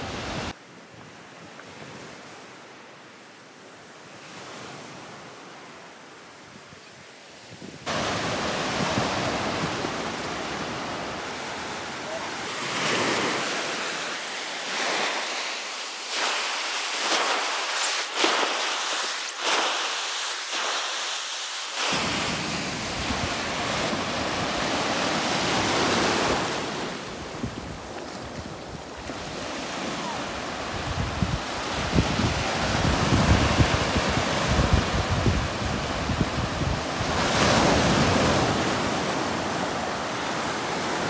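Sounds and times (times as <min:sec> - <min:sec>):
sea waves breaking on shore: 0:00.0 - 0:02.8, 0:07.2 - 0:41.0.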